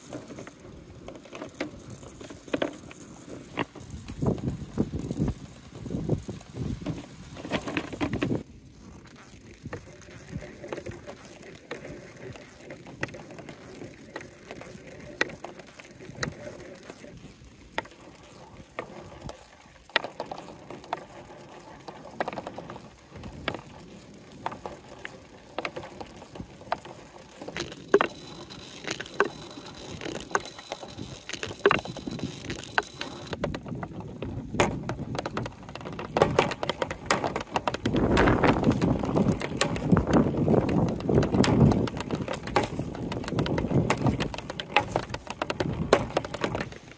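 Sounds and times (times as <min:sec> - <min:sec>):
marbles rolling in plastic run: 0:00.0 - 0:46.9.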